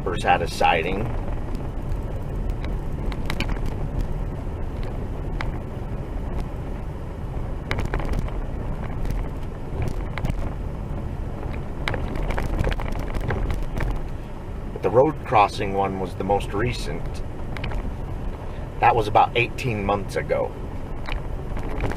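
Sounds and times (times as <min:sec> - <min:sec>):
engine and tyre rumble: 0:00.0 - 0:21.9.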